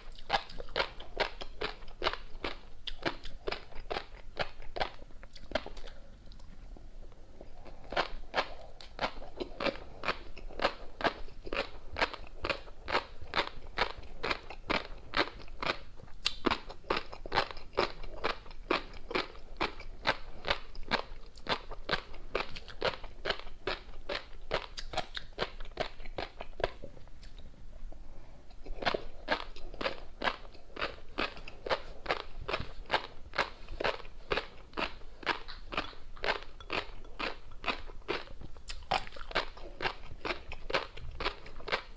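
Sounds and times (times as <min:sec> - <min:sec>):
close-up crunchy chewing: 0:00.0 - 0:27.5, 0:28.5 - 0:41.9.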